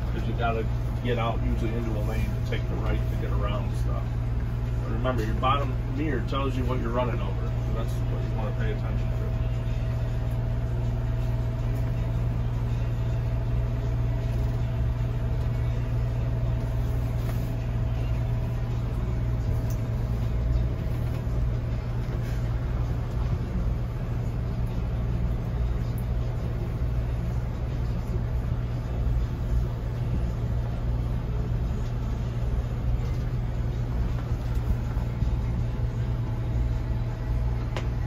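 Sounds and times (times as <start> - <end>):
engine and road rumble: 0.0 - 38.0
faint steady whine: 0.0 - 38.0.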